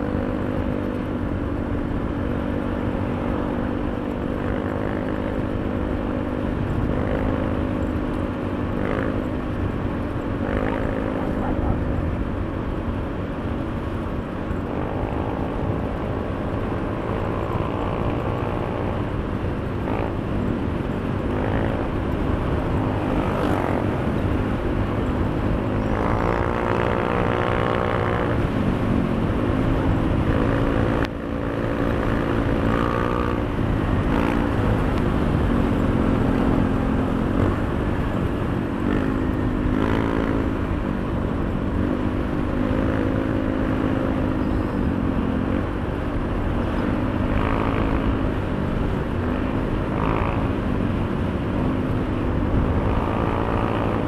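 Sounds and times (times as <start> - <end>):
scooter engine running: 0.0 - 54.0.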